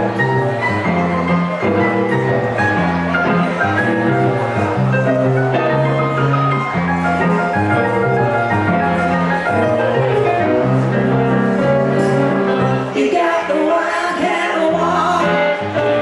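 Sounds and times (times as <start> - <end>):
bass line: 0.0 - 13.4
electric guitar: 0.0 - 13.5, 14.7 - 16.0
keyboard: 0.0 - 16.0.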